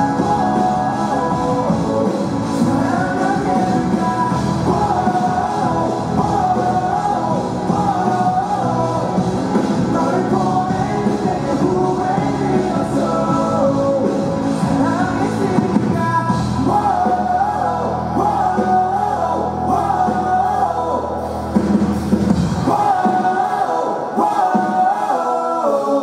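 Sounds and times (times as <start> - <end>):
live rock band playing: 0.0 - 26.0
man singing: 0.0 - 26.0.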